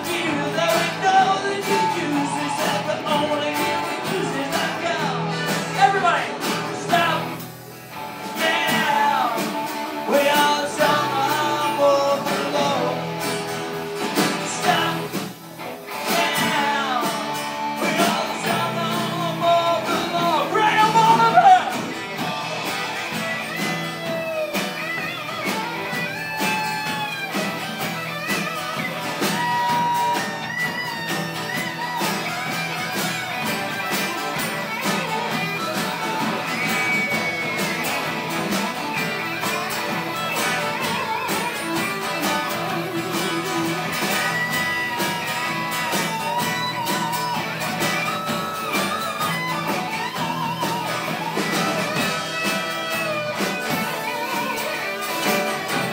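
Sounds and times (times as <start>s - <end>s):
live rock band: 0.0s - 55.9s.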